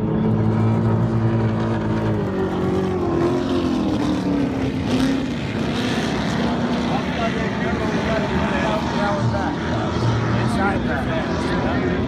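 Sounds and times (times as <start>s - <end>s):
powerboat engines at speed: 0.0s - 12.0s.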